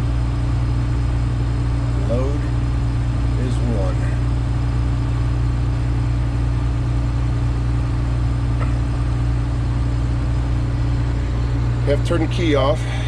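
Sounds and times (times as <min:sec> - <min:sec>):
cab fan running: 0:00.0 - 0:13.0
combine engine idling: 0:00.0 - 0:13.0.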